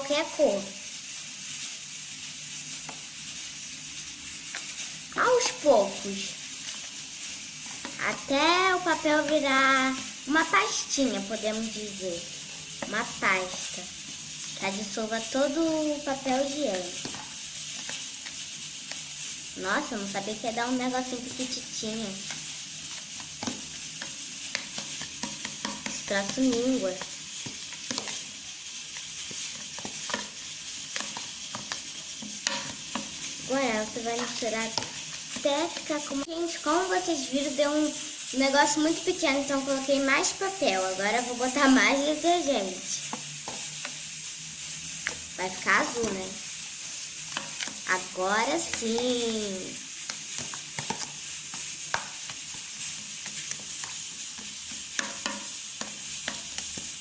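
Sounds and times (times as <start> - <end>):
paste being stirred: 1.8 - 57.0.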